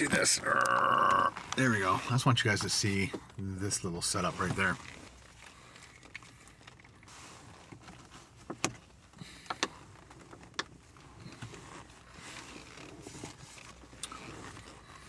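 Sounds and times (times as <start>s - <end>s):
light rustling of handling: 1.3s - 15.0s.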